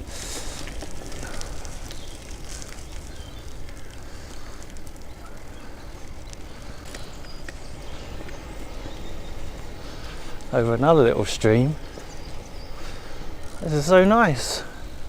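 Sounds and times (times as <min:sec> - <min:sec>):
bicycle tyres on rough trail: 0:00.0 - 0:15.0.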